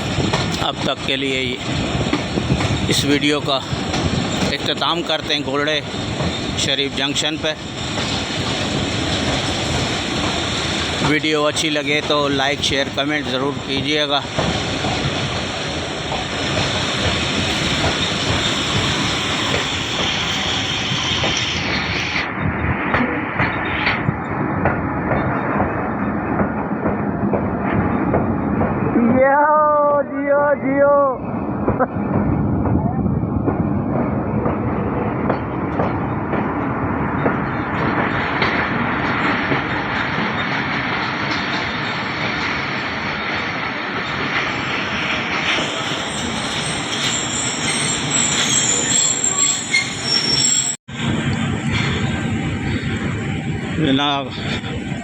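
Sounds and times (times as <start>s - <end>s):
train moving on track: 0.0s - 55.0s.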